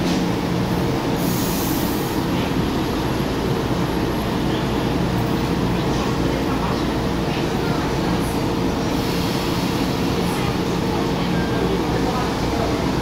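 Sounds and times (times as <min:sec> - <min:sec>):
train equipment hum and rumble: 0:00.0 - 0:13.0.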